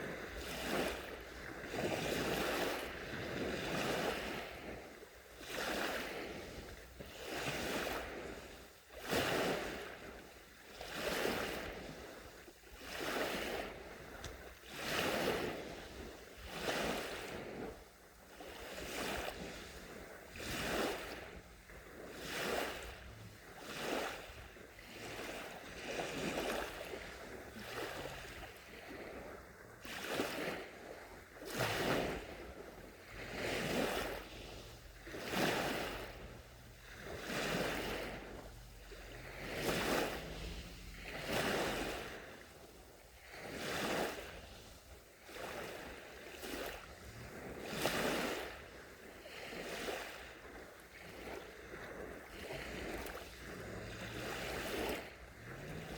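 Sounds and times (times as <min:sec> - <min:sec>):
gentle waves on sandy shore: 0:00.0 - 0:55.9.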